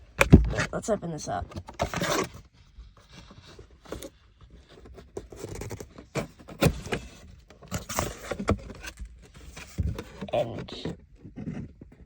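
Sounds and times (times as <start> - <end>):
packaging scraping and tearing: 1.5 - 11.7.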